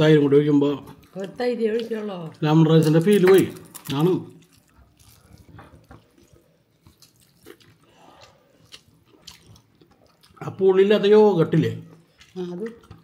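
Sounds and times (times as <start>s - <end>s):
wet chewing: 0.8s - 10.5s, 11.8s - 13.0s.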